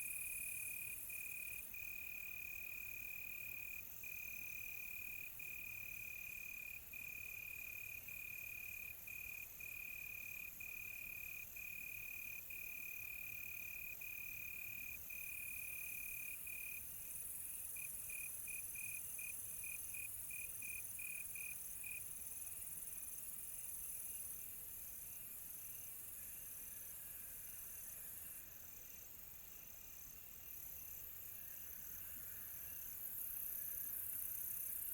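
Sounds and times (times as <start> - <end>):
faint insect chorus: 0.0 - 34.9.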